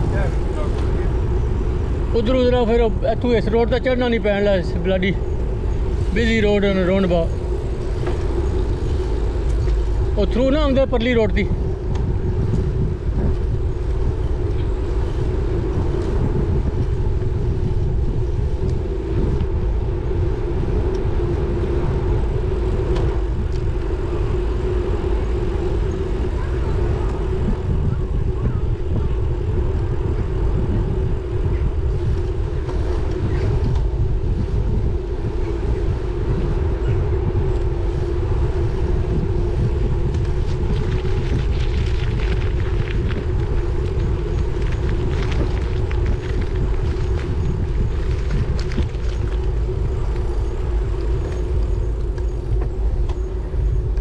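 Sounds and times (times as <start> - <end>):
road noise from bike: 0.0 - 54.0
steady hum: 0.0 - 54.0
wind rush: 0.0 - 54.0.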